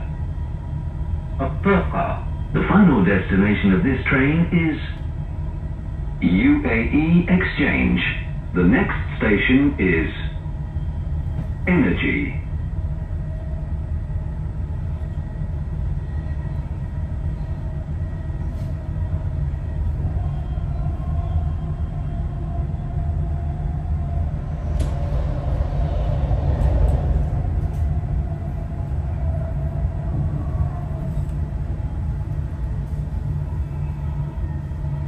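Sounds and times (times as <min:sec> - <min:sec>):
faint whine: 0:00.0 - 0:35.0
train low rumble: 0:00.0 - 0:35.0.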